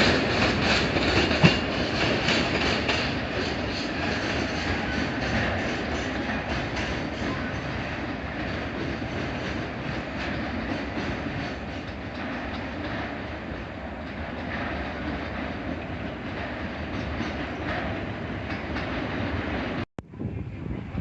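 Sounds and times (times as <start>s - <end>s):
train wheels clicking over rail joints: 0.0s - 19.8s.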